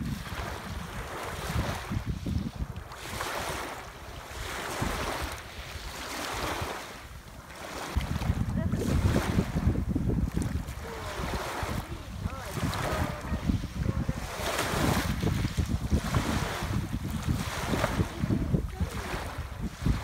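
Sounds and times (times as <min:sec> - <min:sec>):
small waves breaking on pebbles: 0:00.0 - 0:20.0
wind buffeting microphone: 0:00.0 - 0:20.0.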